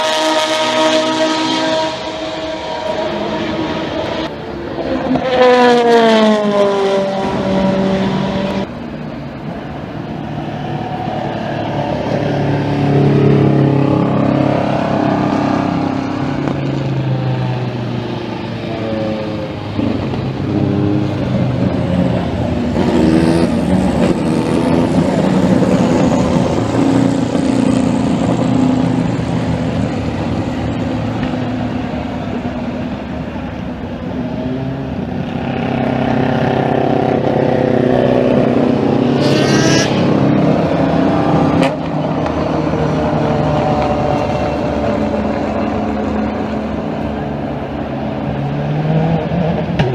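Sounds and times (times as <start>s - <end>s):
race cars passing: 0.0s - 49.9s.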